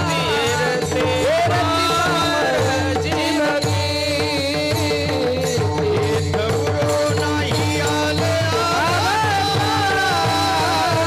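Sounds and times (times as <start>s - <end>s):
men singing together: 0.0s - 11.0s.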